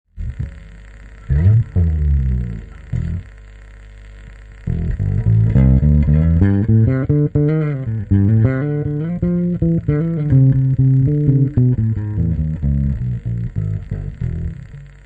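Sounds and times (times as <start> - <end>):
electric bass plucked notes: 0.1 - 3.3, 4.7 - 15.0
low steady hum: 0.1 - 15.0.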